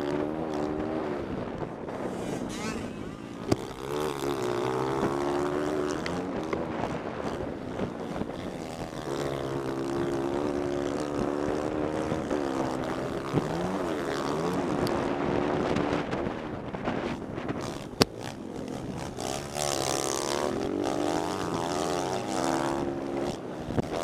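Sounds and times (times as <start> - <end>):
motorbike engine revving high: 0.0 - 24.0.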